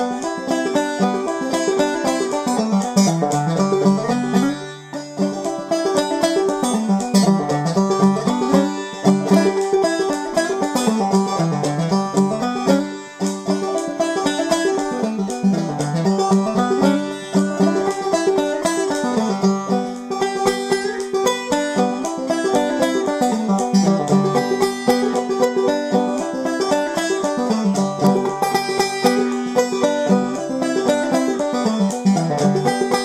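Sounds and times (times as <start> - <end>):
banjo playing old-time melody: 0.0 - 33.0.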